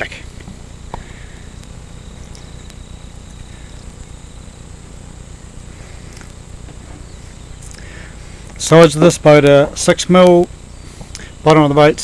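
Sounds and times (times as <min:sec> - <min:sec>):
faint high hiss: 0:00.0 - 0:12.0.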